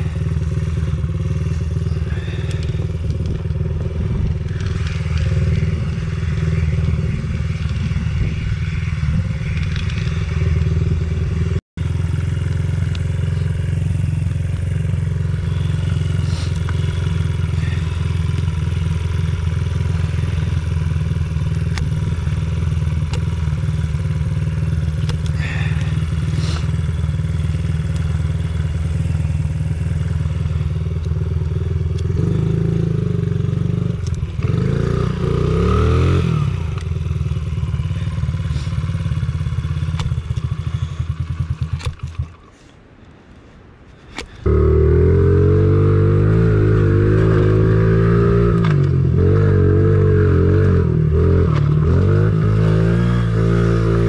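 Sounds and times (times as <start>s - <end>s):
small motorcycle engine running: 0.0s - 42.5s, 44.4s - 54.0s.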